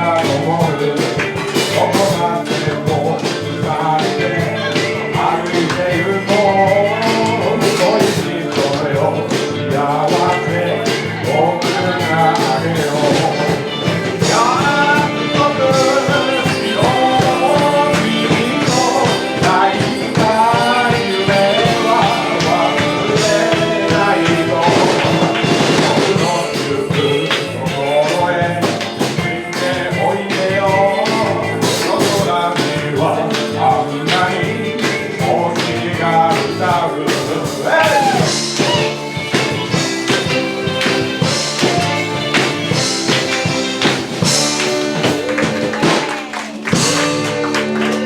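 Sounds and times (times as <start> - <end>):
live rock band: 0.0 - 48.0
person singing: 0.0 - 48.0
steady drum beat: 0.0 - 48.0.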